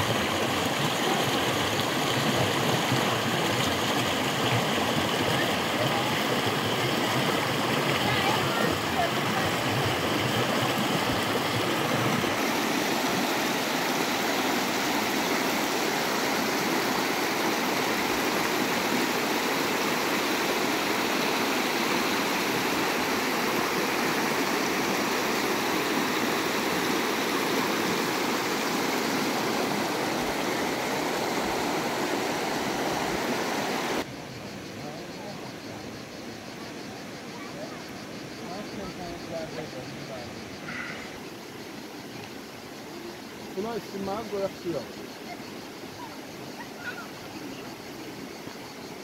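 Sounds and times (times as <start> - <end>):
stream rushing over rocks: 0.0 - 34.8, 38.0 - 49.0.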